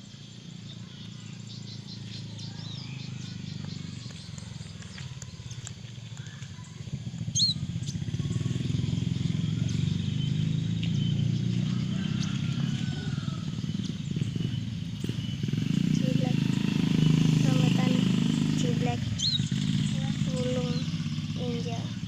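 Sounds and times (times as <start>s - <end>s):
engine humming: 0.0s - 22.0s
small birds chirping: 0.0s - 22.0s.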